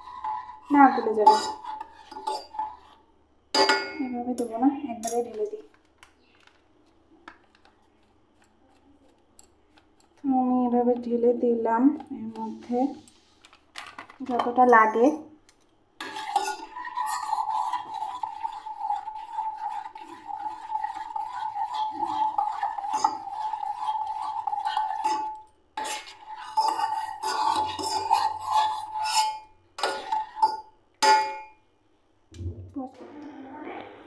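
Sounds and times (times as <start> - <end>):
spoon stirring in metal saucepan: 0.0 - 5.9, 6.5 - 10.2, 10.8 - 31.6.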